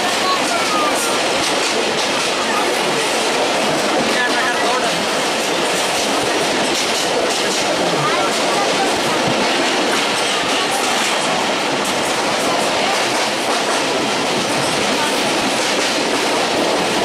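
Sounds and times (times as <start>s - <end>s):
train wheels on rail: 0.0s - 17.0s.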